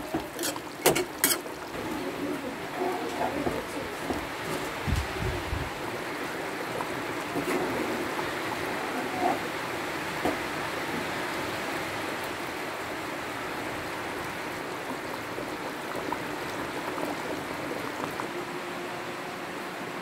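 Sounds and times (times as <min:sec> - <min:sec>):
curry simmering hiss: 0:00.0 - 0:20.0.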